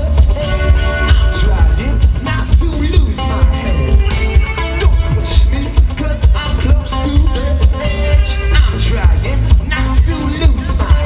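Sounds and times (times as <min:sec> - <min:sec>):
bass guitar: 0:00.0 - 0:11.0
drums steady beat: 0:00.0 - 0:11.0
live band music: 0:00.0 - 0:11.0.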